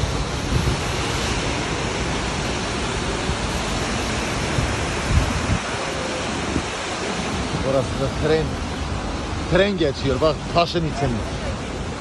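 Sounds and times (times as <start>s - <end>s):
white water roaring: 0.0s - 12.0s.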